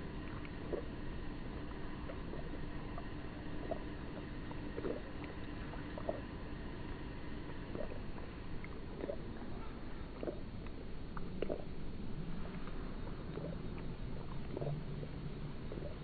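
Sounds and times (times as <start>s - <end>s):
cat lapping milk slowed down: 0.0s - 16.0s
low background noise: 0.0s - 16.0s.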